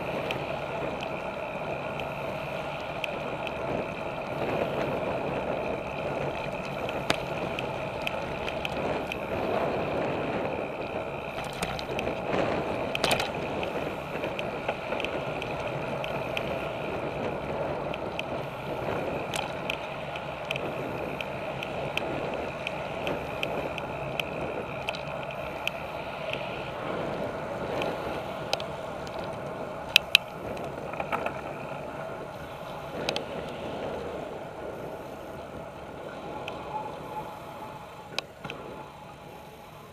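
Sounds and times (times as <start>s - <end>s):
handlebar rattle: 0.0s - 37.1s
bike tyres rumbling on pavement: 0.0s - 39.9s.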